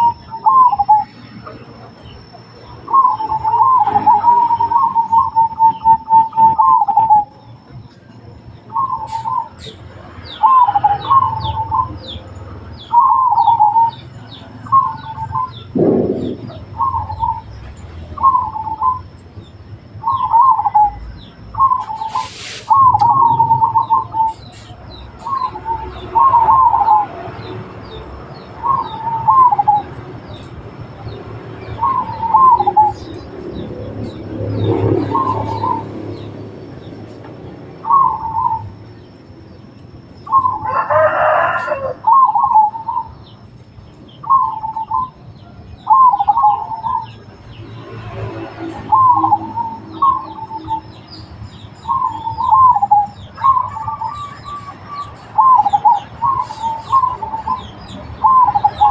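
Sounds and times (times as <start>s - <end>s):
doves cooing: 0.0s - 7.4s, 8.7s - 12.2s, 12.8s - 19.1s, 20.0s - 36.6s, 37.8s - 38.8s, 40.3s - 43.2s, 44.2s - 47.2s, 48.2s - 50.9s, 51.8s - 58.9s.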